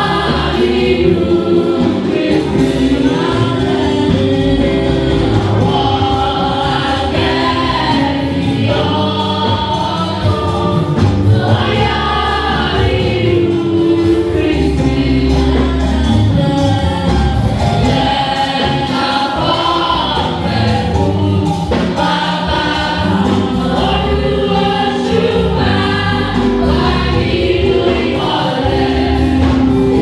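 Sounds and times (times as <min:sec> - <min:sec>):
bass line: 0:00.0 - 0:30.0
choir singing a hymn: 0:00.0 - 0:30.0.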